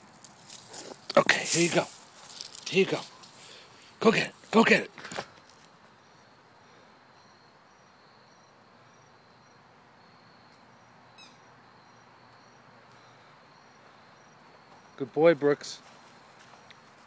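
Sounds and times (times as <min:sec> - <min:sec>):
insect trill: 0:00.0 - 0:15.4
insect chirping: 0:00.0 - 0:17.0.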